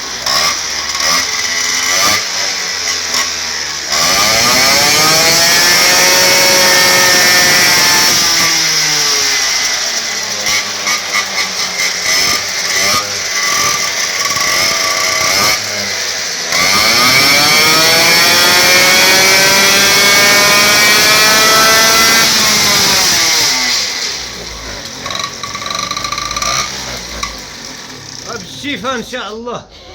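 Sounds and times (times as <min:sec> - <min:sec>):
moped engine revving: 0:00.0 - 0:29.2.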